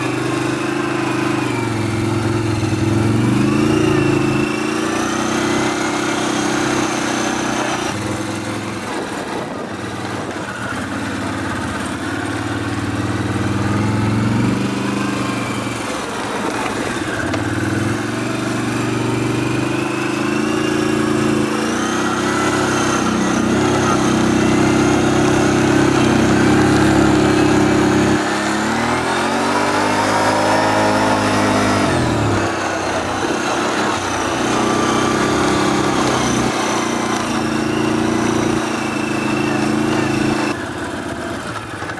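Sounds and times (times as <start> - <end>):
atv engine revving: 0.0 - 41.9.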